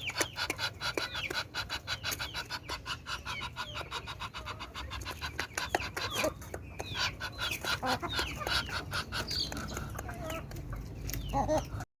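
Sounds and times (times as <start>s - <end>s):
fowl clucking and chirping: 0.0s - 11.8s.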